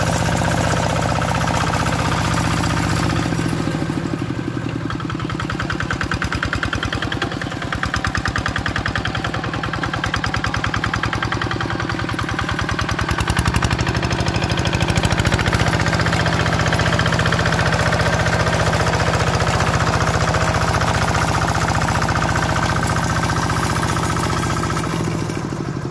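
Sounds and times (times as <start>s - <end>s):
diesel hand tractor engine running: 0.0s - 25.9s.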